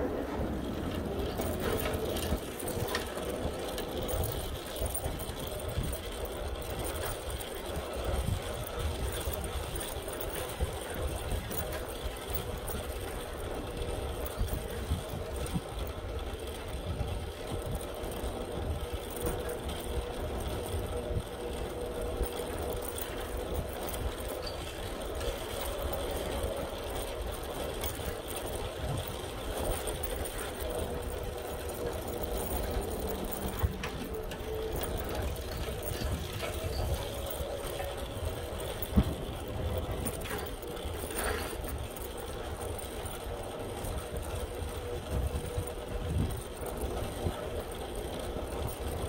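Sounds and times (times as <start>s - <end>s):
bicycle riding rumble: 0.0s - 49.0s.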